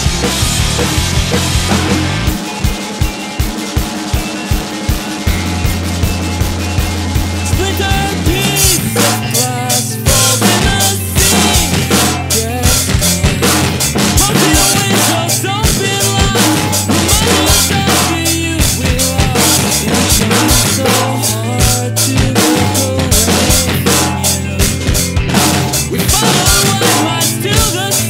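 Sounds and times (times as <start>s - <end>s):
drum kit playing rock beat: 0.0s - 28.0s
rock music with guitars and bass: 0.0s - 28.0s.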